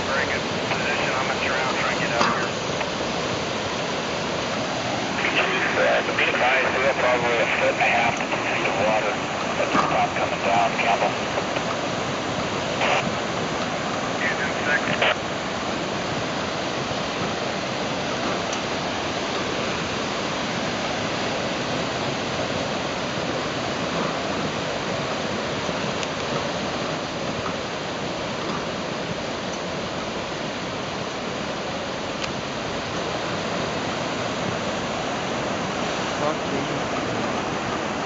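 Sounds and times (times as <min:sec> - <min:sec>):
floodwater rushing: 0:00.0 - 0:38.0.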